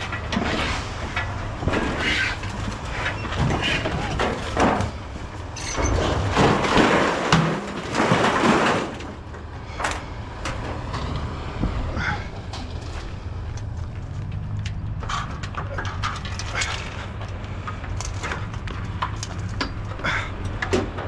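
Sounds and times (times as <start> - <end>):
scrap metal crashing and clattering: 0.0 - 11.3, 14.8 - 21.0
engine humming: 0.0 - 21.0
metal knocks and clanks: 0.0 - 21.0.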